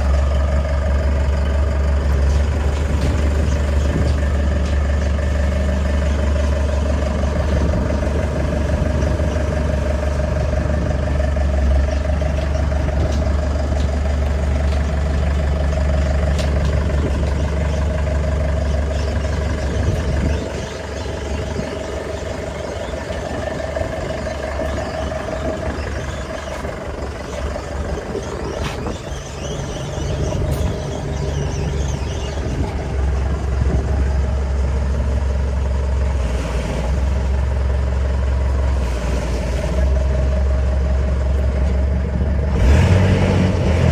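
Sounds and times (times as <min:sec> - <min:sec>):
deep low hum: 0:00.0 - 0:37.6
pile driver engine whine: 0:00.0 - 0:43.9.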